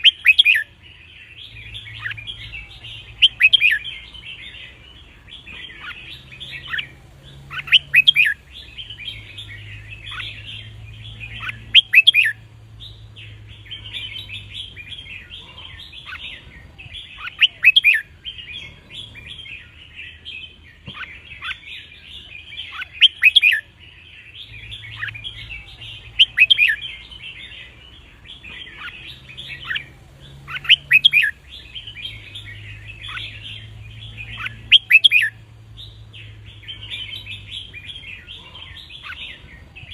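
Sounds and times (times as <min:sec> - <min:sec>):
bird song phrase: 0:00.0 - 0:39.9
twittering bird chirps: 0:00.0 - 0:39.9.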